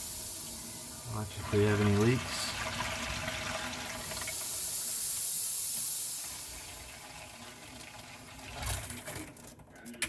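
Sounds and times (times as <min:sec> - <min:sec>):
water hissing through filter: 0:00.0 - 0:08.9.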